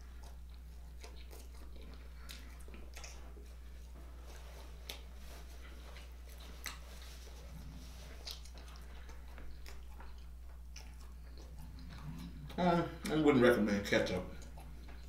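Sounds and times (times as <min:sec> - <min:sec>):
man chewing: 0:00.0 - 0:13.2, 0:14.0 - 0:15.0.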